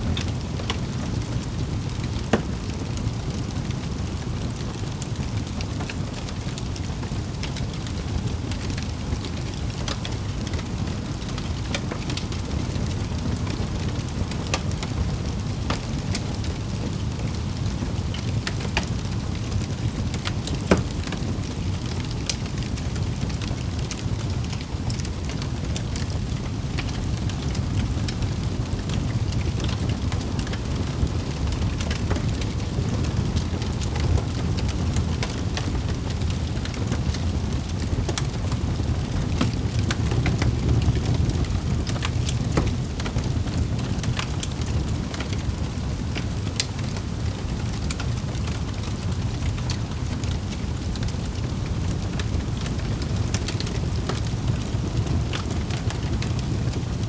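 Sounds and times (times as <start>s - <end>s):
fire flames rumbling: 0.0s - 57.0s
fire pops and snaps: 0.1s - 57.0s.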